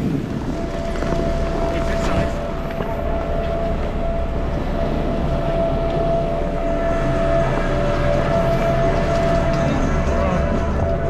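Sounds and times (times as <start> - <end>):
chairlift machinery rumble and whine: 0.0 - 11.0.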